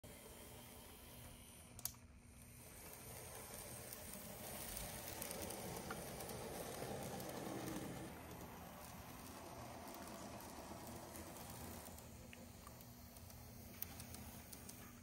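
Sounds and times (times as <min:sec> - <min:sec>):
model train rattling on track: 0:02.6 - 0:15.0.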